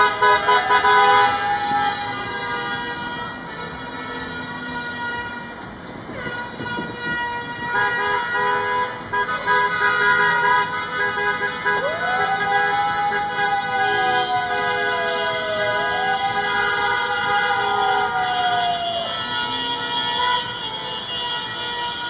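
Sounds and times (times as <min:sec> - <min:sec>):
truck horns honking: 0:00.0 - 0:22.0.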